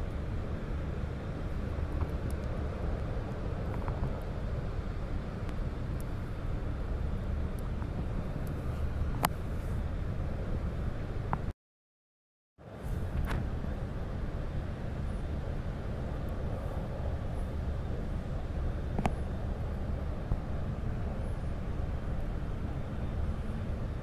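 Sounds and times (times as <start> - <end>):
low outdoor rumble: 0.0 - 11.5, 12.6 - 24.0.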